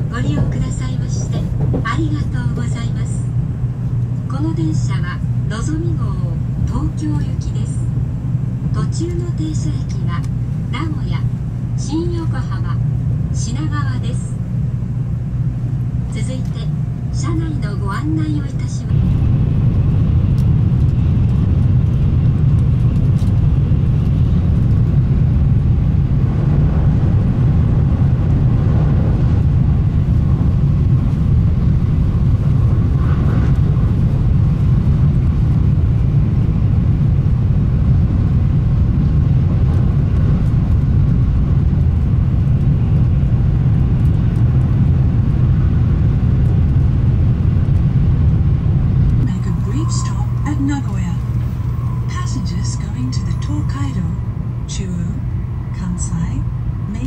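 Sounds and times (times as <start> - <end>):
train rumble inside cabin: 0.0 - 57.0.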